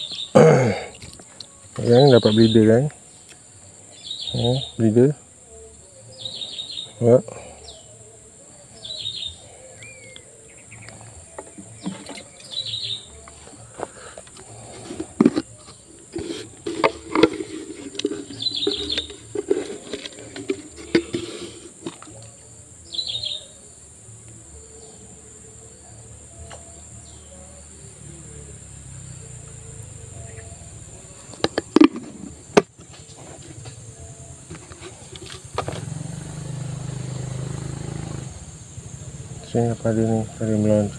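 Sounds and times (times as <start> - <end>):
bird chirps: 0.0 - 4.9, 5.8 - 14.8, 15.4 - 23.8, 24.4 - 40.9
high-pitched insect drone: 0.0 - 40.9.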